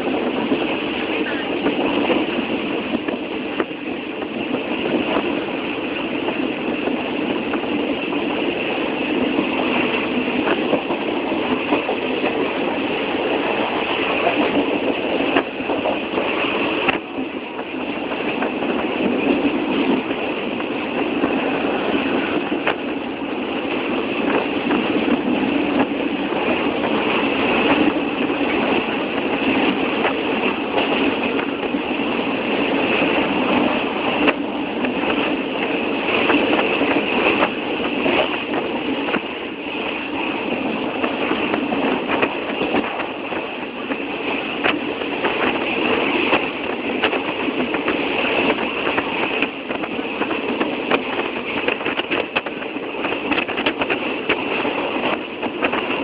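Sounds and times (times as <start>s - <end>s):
sharp rail clicks: 0.0s - 56.0s
train running on rails: 0.0s - 56.0s.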